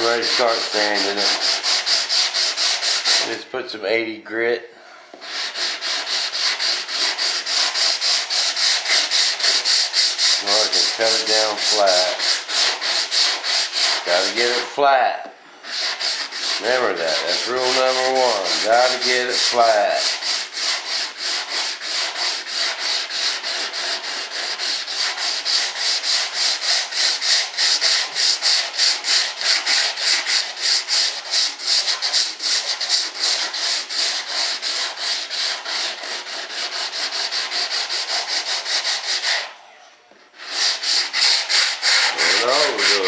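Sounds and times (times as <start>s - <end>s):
sandpaper scraping body filler: 0.0s - 3.4s, 5.2s - 14.8s, 15.6s - 39.5s, 40.4s - 43.0s.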